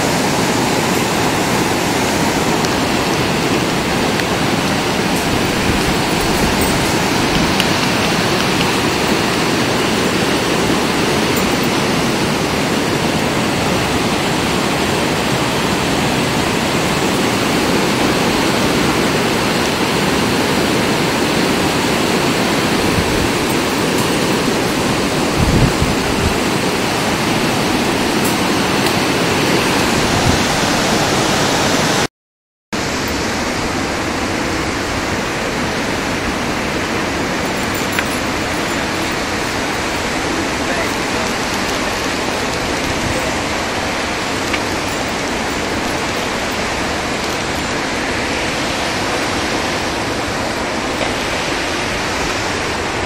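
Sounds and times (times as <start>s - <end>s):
loud steady rushing noise: 0.0s - 32.1s, 32.8s - 53.0s.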